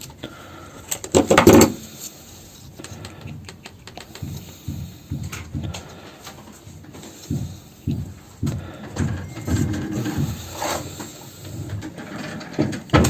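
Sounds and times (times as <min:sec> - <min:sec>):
hardware parts clattering: 0:00.8 - 0:13.0.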